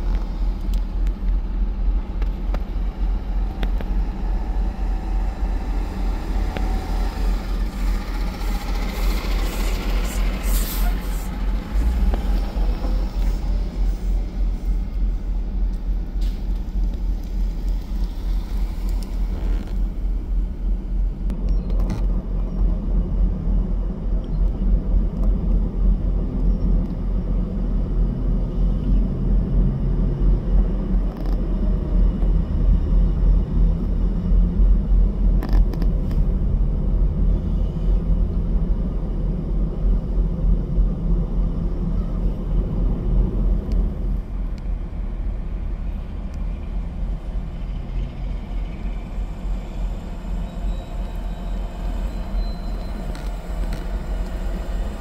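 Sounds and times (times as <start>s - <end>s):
truck engines rumbling: 0.0s - 55.0s.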